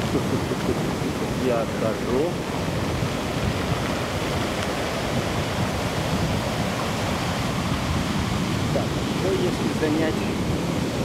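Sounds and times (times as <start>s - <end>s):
surf breaking on pebble beach: 0.0s - 11.0s.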